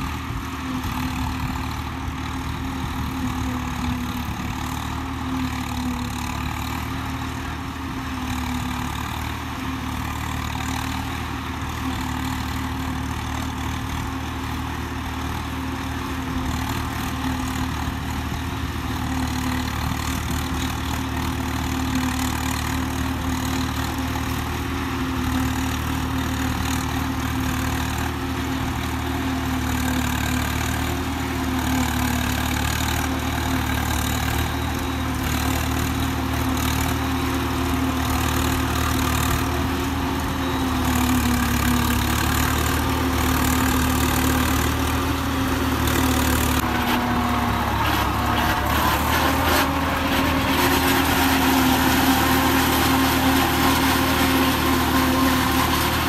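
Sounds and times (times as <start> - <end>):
second tractor engine: 0.0 - 56.0
tractor diesel engine under load: 0.0 - 56.0.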